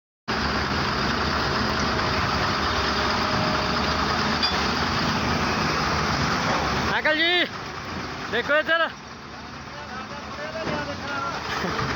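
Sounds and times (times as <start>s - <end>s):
truck engine running: 0.3s - 11.9s.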